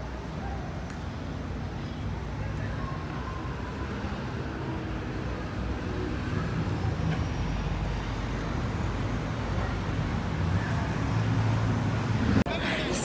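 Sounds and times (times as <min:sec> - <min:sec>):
low rumble of cars: 0:00.0 - 0:13.0.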